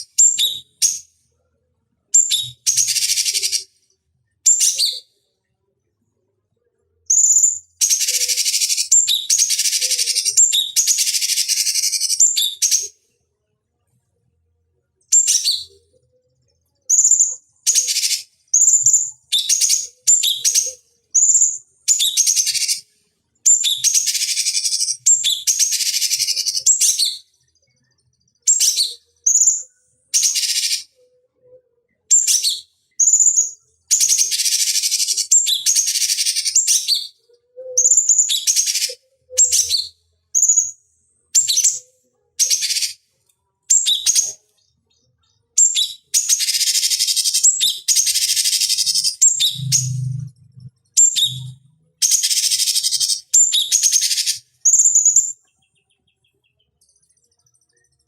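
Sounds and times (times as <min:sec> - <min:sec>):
songbird chirping and chattering: 0:00.0 - 0:01.1, 0:02.2 - 0:03.7, 0:04.5 - 0:05.2, 0:06.8 - 0:13.0, 0:15.0 - 0:43.0, 0:43.7 - 0:58.0.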